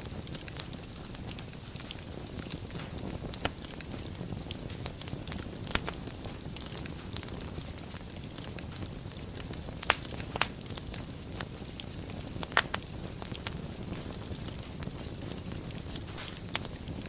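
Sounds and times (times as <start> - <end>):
low rumble of burning: 0.0 - 17.0
sharp pops from fire: 0.0 - 17.0
wood fire crackling: 0.0 - 17.0.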